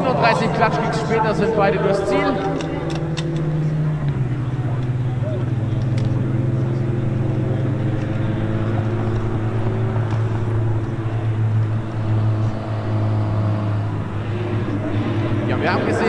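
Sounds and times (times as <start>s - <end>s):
car engines droning: 0.0s - 16.0s.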